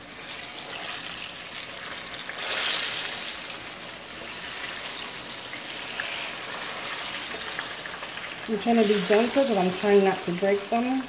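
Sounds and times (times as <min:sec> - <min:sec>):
plantains sizzling in oil: 0:00.0 - 0:11.0.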